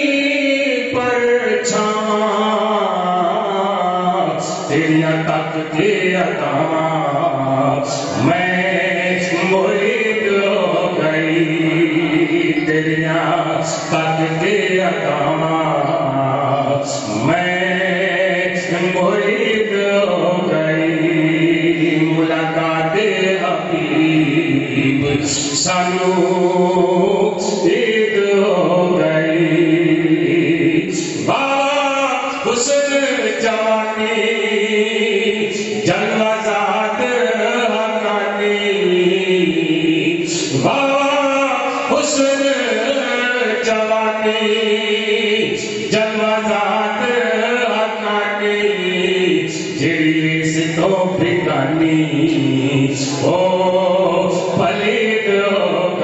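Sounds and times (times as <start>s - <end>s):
man chanting into a microphone: 0.0s - 56.0s.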